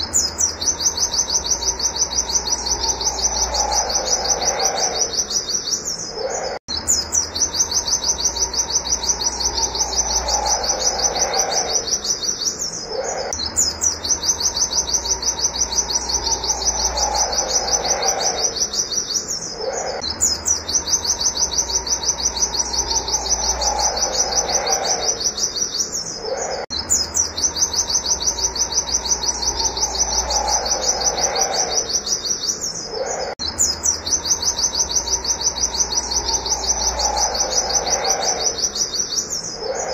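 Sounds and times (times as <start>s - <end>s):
bird singing sharp high notes: 0.0s - 39.9s.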